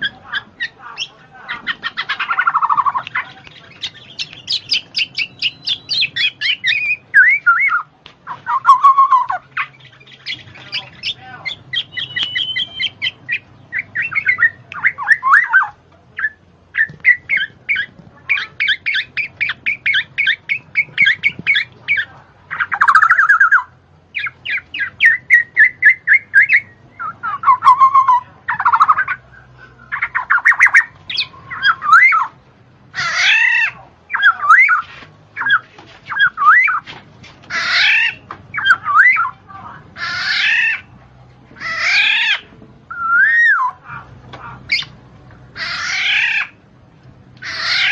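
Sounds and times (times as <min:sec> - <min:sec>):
high bird chirps: 0:00.0 - 0:32.4, 0:33.0 - 0:36.9, 0:37.5 - 0:39.4, 0:44.7 - 0:45.0
harsh bird squawks: 0:00.0 - 0:36.9, 0:37.5 - 0:39.4, 0:40.0 - 0:41.0, 0:41.6 - 0:46.6, 0:47.4 - 0:47.9.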